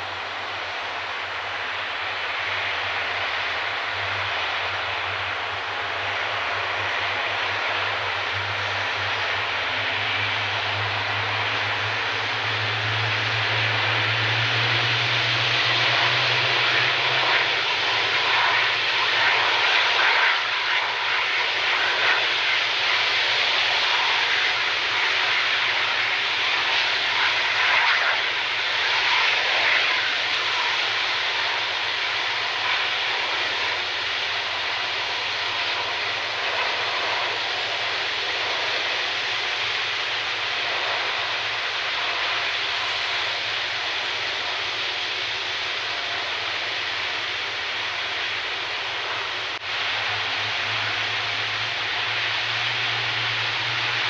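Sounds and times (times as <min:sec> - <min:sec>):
jet engines running at high power: 0:00.0 - 0:54.0.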